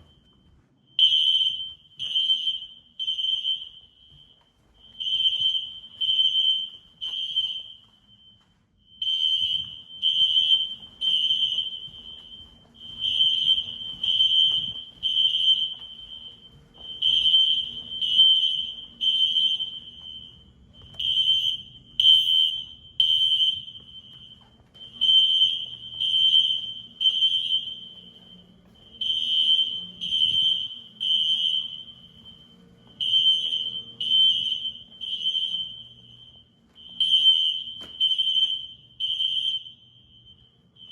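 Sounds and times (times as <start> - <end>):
fire alarm horn beeps: 0.0 - 40.9.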